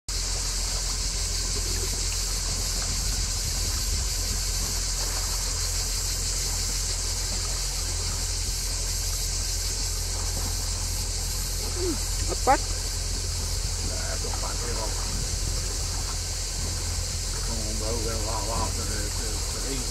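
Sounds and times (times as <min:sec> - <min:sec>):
boat engine hum: 0:00.1 - 0:19.9
cicadas singing: 0:00.1 - 0:19.9.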